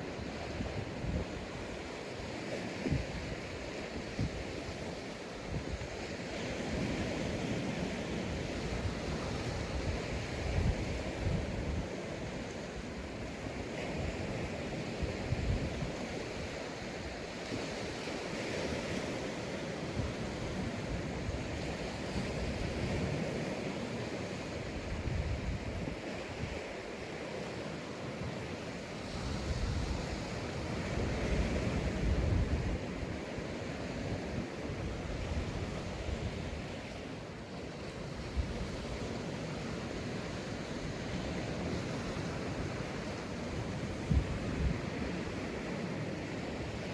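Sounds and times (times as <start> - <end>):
surf hiss: 0.0 - 46.9
wind rumbling on microphone: 0.0 - 46.9.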